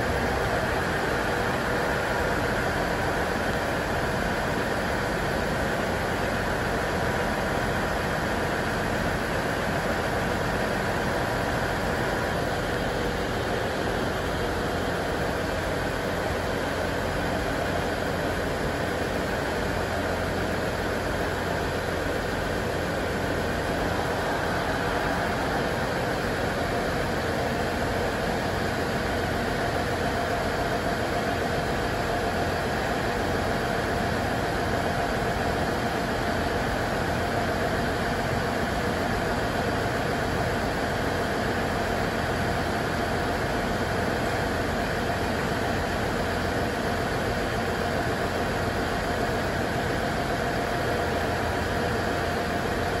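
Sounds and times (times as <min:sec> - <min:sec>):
diesel railcar idling: 0:00.0 - 0:53.0.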